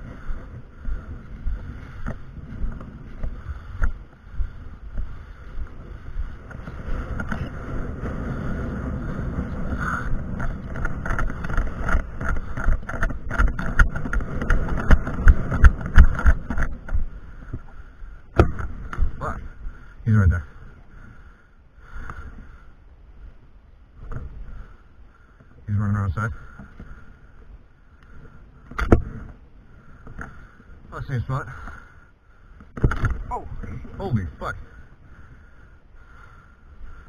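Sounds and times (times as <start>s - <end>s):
wind rumbling on microphone: 0.0s - 37.0s.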